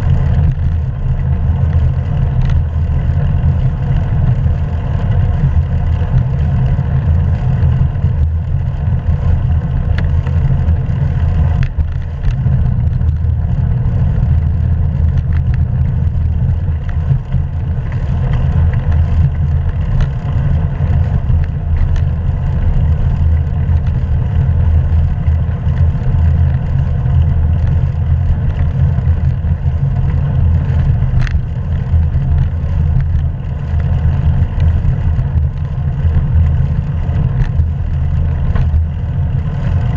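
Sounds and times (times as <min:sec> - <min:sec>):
bicycle tyre and road noise: 0:00.0 - 0:39.9
wind rumbling on microphone: 0:00.0 - 0:39.9.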